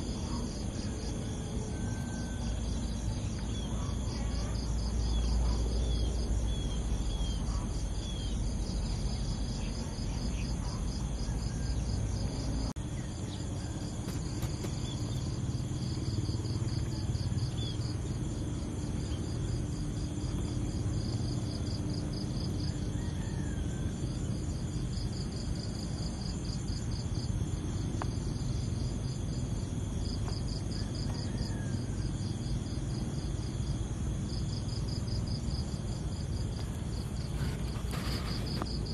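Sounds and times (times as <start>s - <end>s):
insects chirping: 0.0s - 38.9s
low outdoor rumble: 0.0s - 38.9s.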